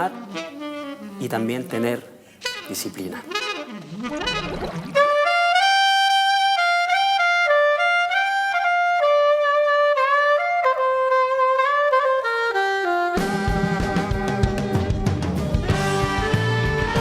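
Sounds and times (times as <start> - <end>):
solo saxophone melody: 0.0 - 17.0.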